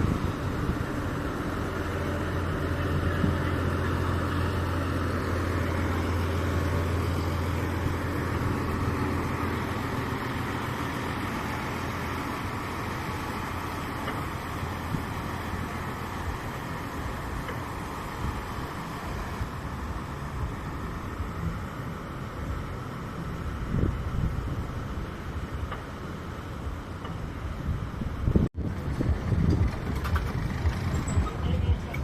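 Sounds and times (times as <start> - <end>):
boat diesel engine droning: 0.0 - 32.0.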